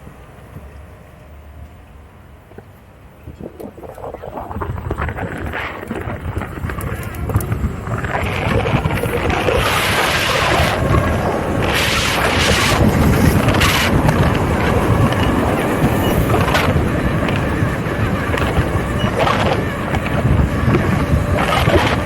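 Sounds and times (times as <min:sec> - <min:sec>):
wind buffeting microphone: 0:02.5 - 0:22.0.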